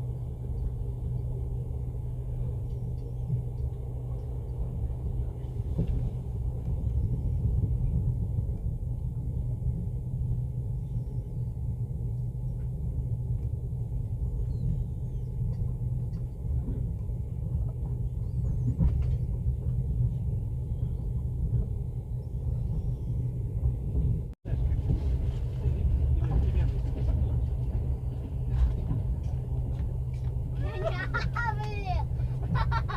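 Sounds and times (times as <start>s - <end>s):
train rumble from inside carriage: 0.0s - 32.9s.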